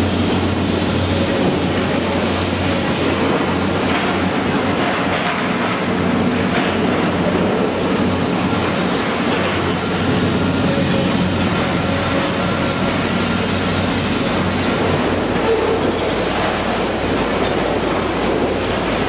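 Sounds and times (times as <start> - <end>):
diesel engine hum: 0.0 - 19.0.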